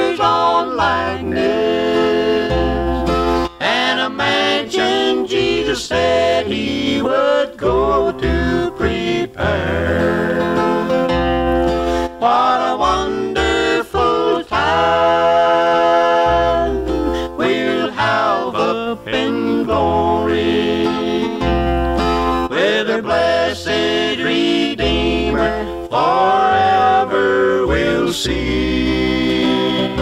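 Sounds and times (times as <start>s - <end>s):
country gospel music with guitar: 0.0s - 30.0s.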